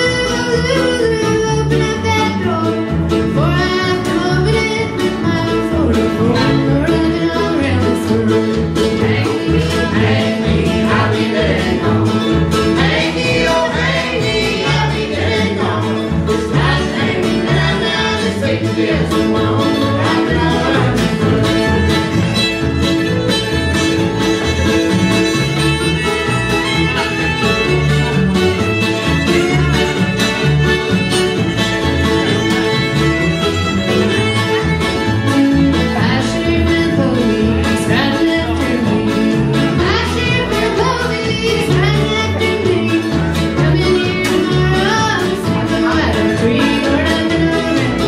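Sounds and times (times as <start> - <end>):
fiddle lead: 0.0 - 48.0
guitar: 0.0 - 48.0
mandolin: 0.0 - 48.0
upright bass: 0.0 - 48.0.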